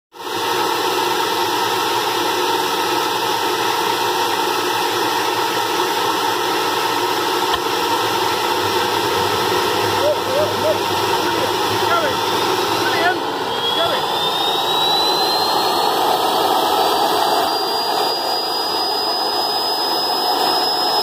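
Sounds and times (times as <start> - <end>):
leaf blower rushing air: 0.1 - 21.0.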